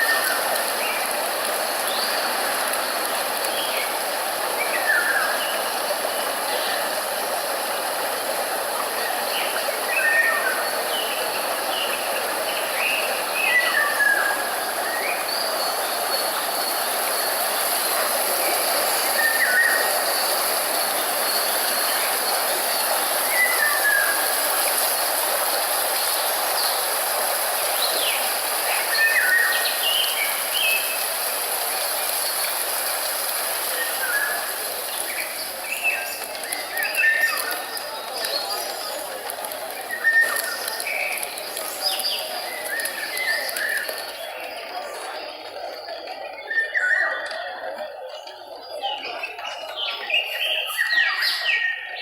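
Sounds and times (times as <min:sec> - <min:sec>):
running water rushing: 0:00.0 - 0:46.8
birds chirping: 0:00.0 - 0:52.0.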